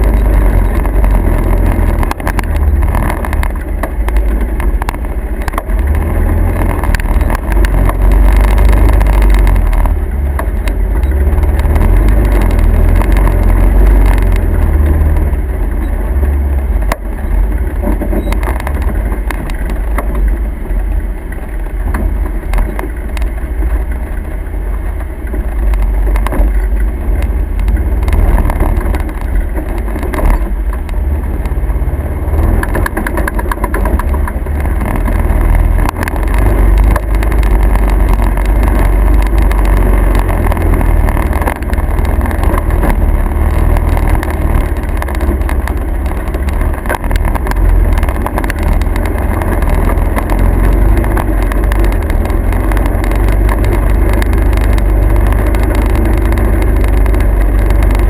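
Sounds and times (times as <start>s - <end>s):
motor vehicle engine rumbling: 0.0s - 58.0s.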